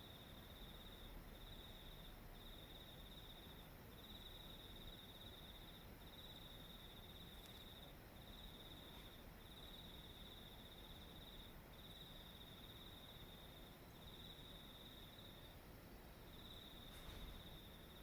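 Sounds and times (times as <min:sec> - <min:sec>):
cricket trilling: 0:00.0 - 0:18.0
faint low background noise: 0:00.0 - 0:18.0.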